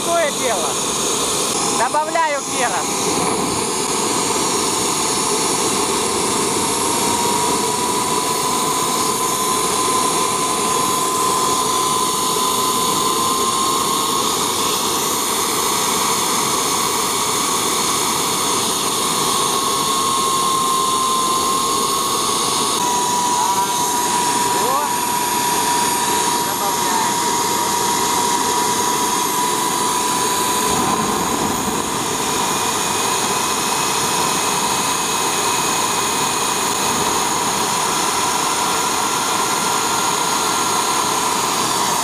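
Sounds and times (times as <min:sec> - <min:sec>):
turbojet engine whining: 0:00.0 - 0:42.0.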